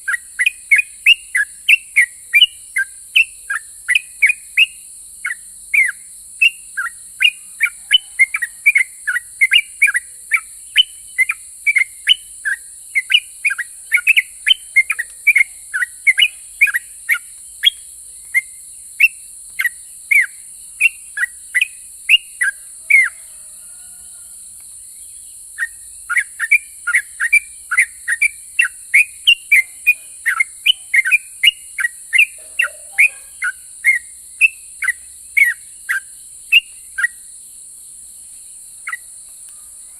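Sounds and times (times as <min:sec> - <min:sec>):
bird singing chirpy notes: 0:00.0 - 0:23.1, 0:25.0 - 0:37.3.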